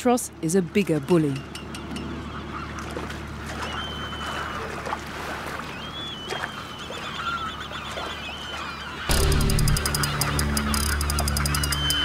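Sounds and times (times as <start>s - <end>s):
boat engine humming: 0.0s - 12.0s
seabirds calling: 0.0s - 12.0s.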